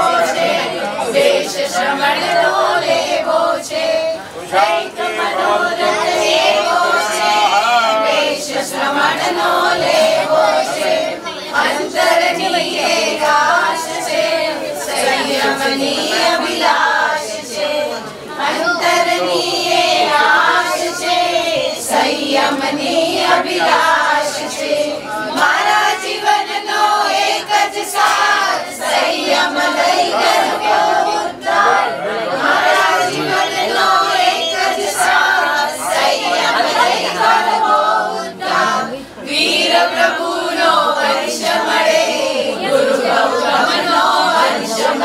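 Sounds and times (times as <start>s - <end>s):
group singing a devotional song: 0.0s - 45.0s.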